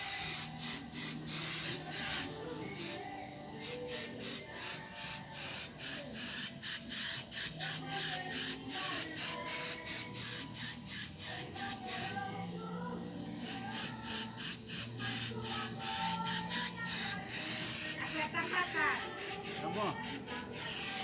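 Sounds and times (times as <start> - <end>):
faint music: 0.0 - 21.0.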